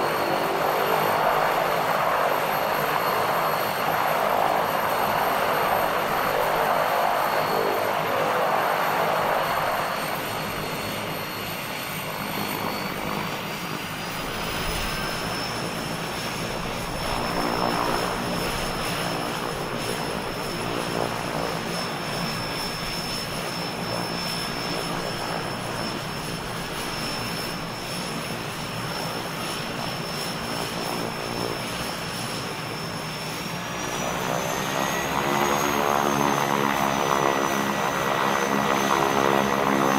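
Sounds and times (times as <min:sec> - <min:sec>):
high turbine whine: 0:00.0 - 0:39.9
turboprop engines droning: 0:00.0 - 0:39.9.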